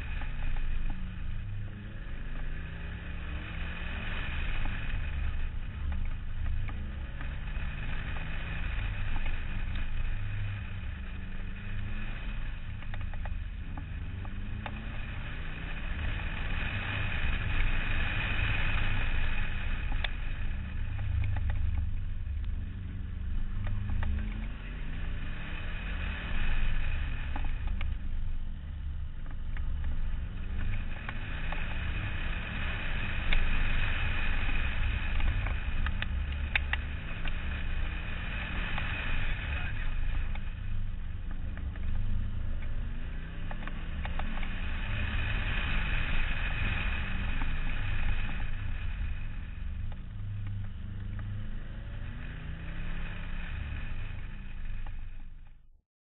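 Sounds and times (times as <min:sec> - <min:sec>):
rally car engine revving: 0:00.0 - 0:55.7
wind and road noise: 0:00.0 - 0:55.8.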